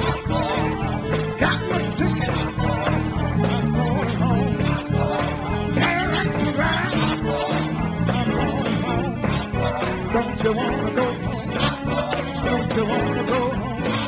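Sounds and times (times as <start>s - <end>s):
church band playing: 0.0s - 14.0s
voices singing: 0.0s - 14.0s.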